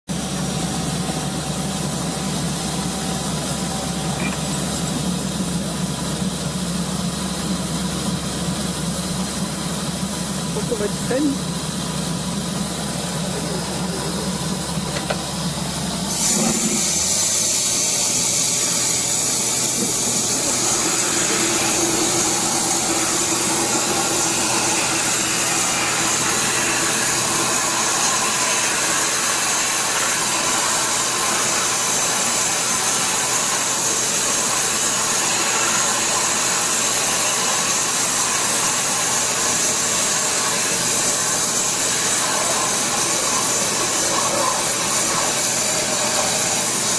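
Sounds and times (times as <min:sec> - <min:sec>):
drilling rig engine running: 0:00.1 - 0:46.9
loud steady hiss: 0:00.2 - 0:46.9.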